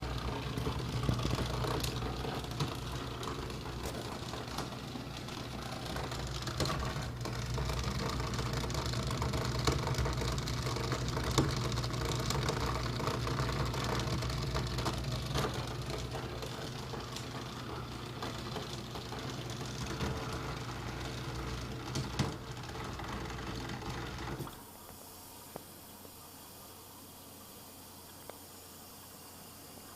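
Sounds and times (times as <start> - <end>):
irregular clicks and knocks: 0.0 - 24.6
dishwasher humming: 0.0 - 29.9.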